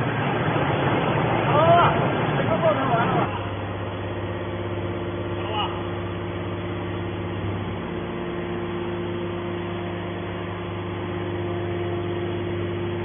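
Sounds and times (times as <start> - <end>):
hydraulic motor and pump humming: 0.0 - 13.0.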